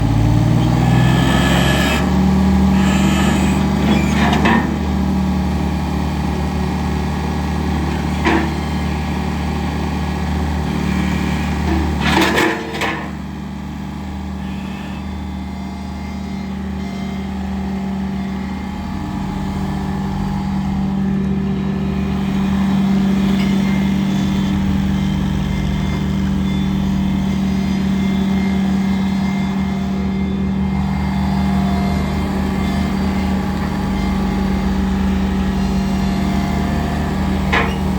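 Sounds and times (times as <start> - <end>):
loader engine running: 0.0 - 37.9.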